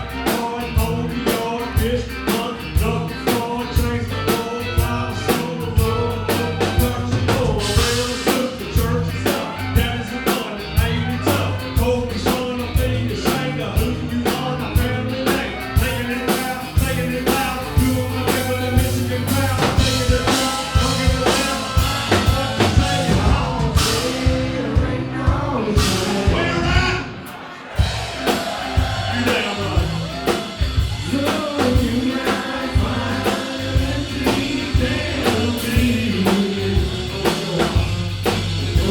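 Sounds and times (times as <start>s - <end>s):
live country-rock band playing: 0.0s - 38.9s.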